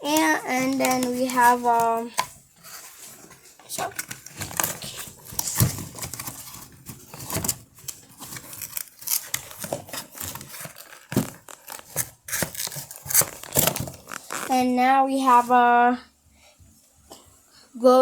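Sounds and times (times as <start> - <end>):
packaging crinkling: 0.0 - 14.6.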